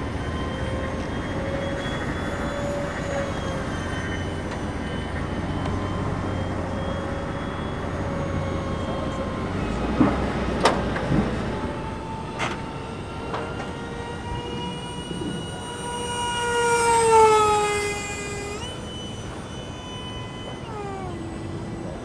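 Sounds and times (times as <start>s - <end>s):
distant model jet fans whining: 0.0s - 22.0s.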